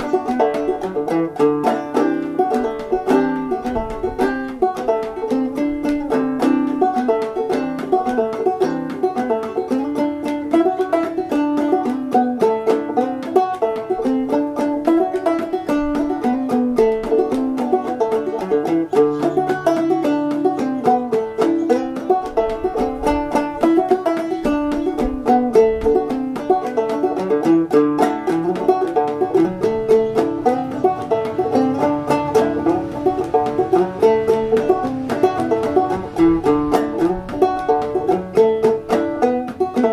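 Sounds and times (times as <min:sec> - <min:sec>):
banjo playing: 0:00.0 - 0:39.9.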